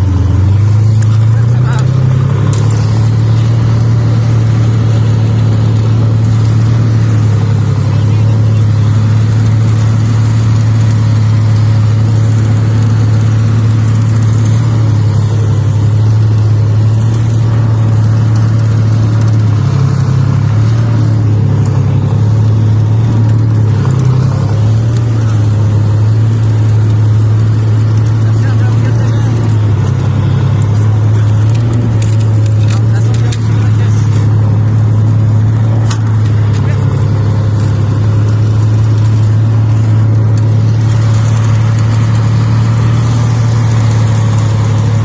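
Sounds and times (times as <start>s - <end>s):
tank diesel engine running: 0.0s - 45.0s.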